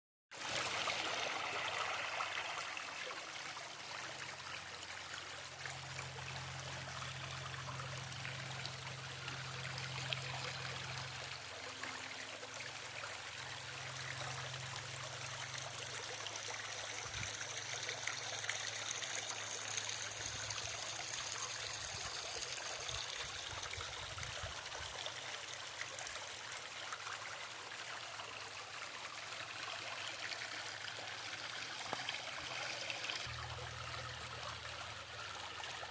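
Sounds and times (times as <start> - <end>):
creek trickling over waterfall: 0.3 - 35.9.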